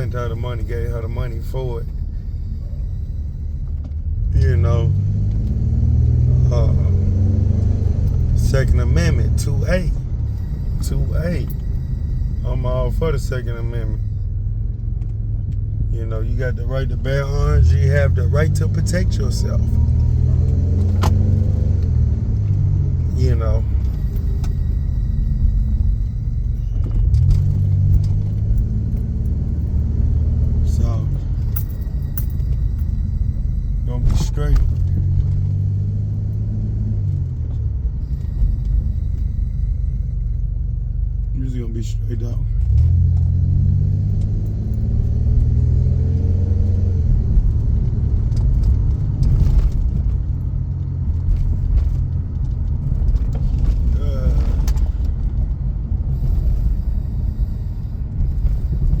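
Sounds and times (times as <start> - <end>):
car interior rumble while driving: 0.0 - 59.0.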